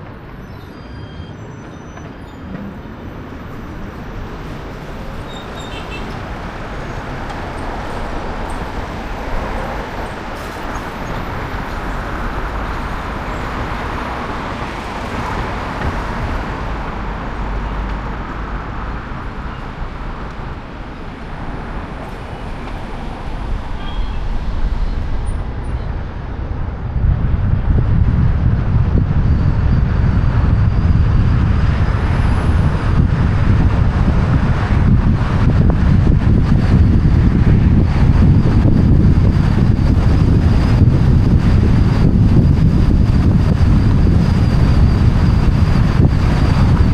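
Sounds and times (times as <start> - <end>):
road traffic and tyre noise: 0.0 - 46.9
wind rumble on microphone: 0.0 - 46.9.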